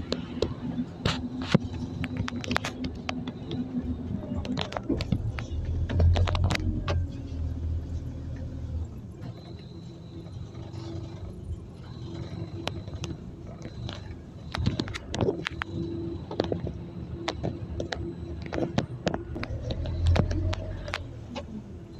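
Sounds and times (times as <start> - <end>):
bus engine rumble: 0.0 - 21.9
clicks and rattles in bus: 0.0 - 21.9.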